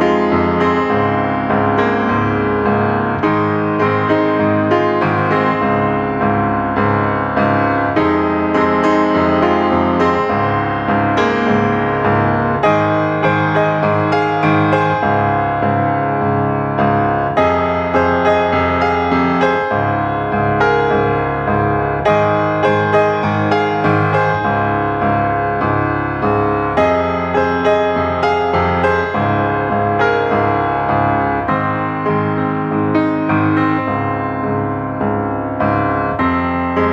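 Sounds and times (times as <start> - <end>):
piano music: 0.0 - 36.9.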